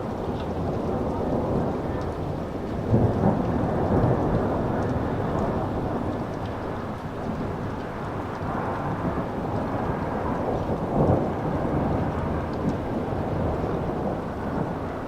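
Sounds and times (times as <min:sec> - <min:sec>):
light rain ticking: 0:00.0 - 0:15.0
thunder rumbling: 0:00.0 - 0:15.0.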